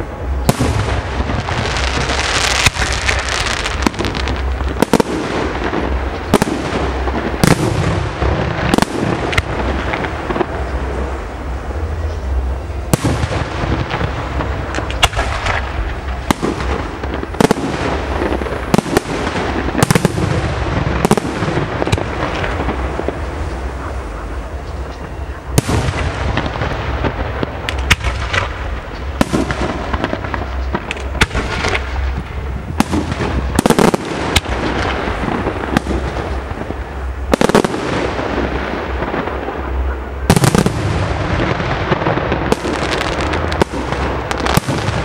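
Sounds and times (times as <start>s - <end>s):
fireworks bursting bangs: 0.0s - 45.0s
fireworks crackling hiss: 0.0s - 45.0s.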